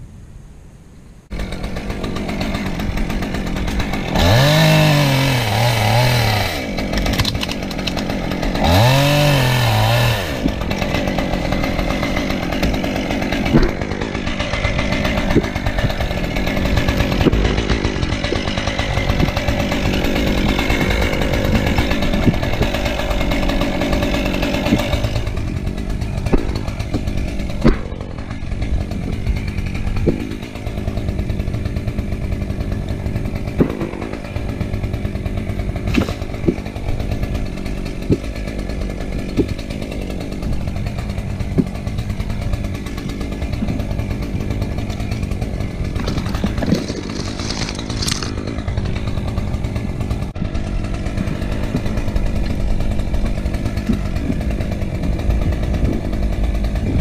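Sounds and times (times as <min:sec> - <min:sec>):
chainsaw revving: 0:01.3 - 0:57.0.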